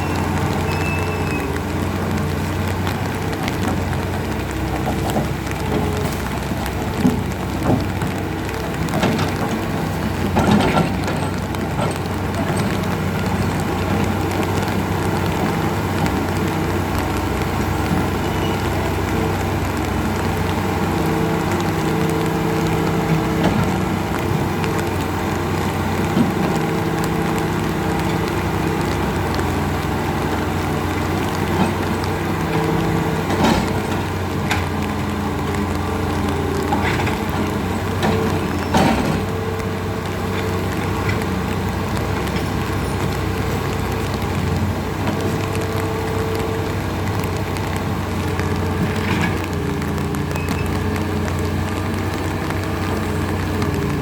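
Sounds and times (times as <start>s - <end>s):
constant noisy wash: 0.0s - 54.0s
large engine humming: 0.0s - 54.0s.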